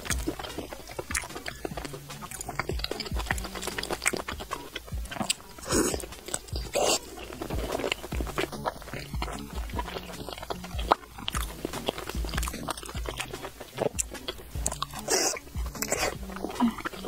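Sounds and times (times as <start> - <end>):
mouth clicks and smacks: 0.0 - 17.0
wet chewing: 0.0 - 17.0.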